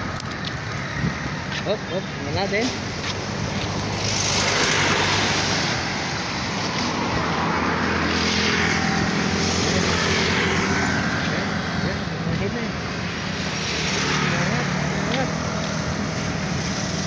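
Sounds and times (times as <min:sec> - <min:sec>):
cars passing: 0:00.0 - 0:17.0
engine hum: 0:00.0 - 0:17.0
tyre and road noise: 0:00.0 - 0:17.0.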